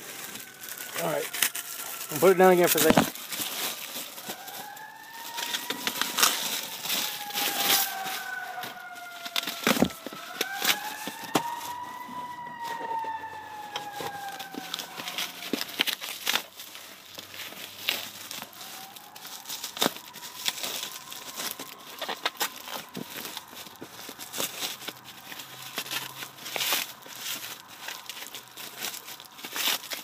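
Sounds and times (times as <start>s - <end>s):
plastic packaging crinkling: 0.0s - 30.0s
siren wailing: 0.0s - 30.0s.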